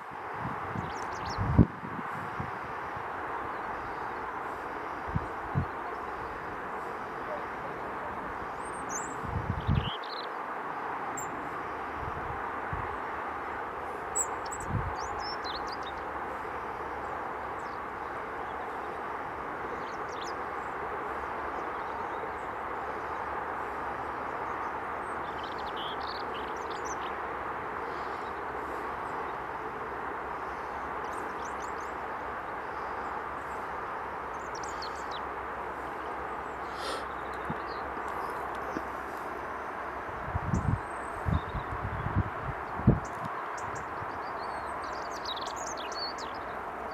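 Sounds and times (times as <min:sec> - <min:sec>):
outdoor background noise: 0:00.0 - 0:46.9.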